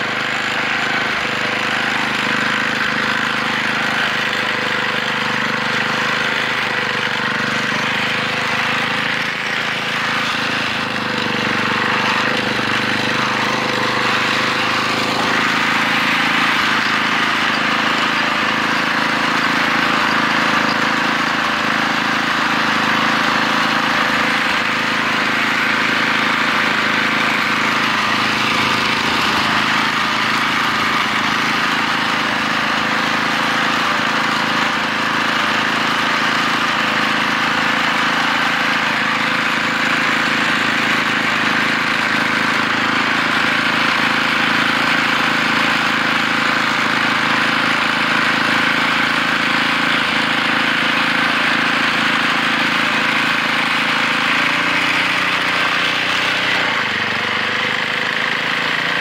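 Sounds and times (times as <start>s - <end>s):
auger churning and throwing snow: 0.0s - 59.0s
snowblower engine running: 0.0s - 59.0s.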